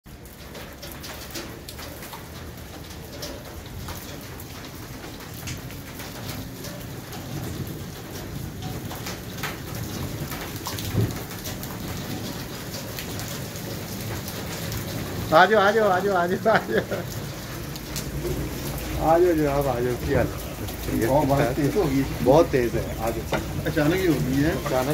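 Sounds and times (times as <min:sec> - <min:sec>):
raindrops pattering: 0:00.0 - 0:24.9
heavy rain pouring: 0:00.1 - 0:24.9.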